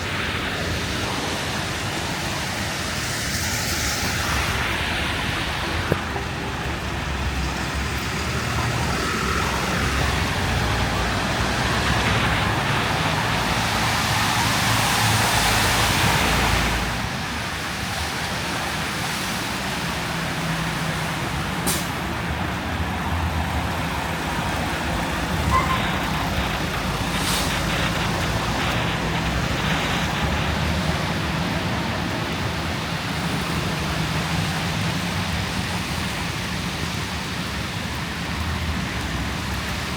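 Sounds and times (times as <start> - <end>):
heavy vehicles passing: 0.0 - 39.9
rushing noise: 0.0 - 39.9.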